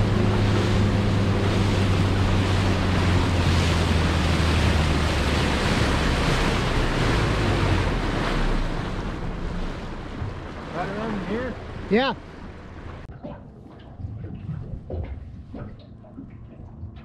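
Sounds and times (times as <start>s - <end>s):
outboard motor humming: 0.0s - 17.0s
water noise: 0.0s - 17.0s.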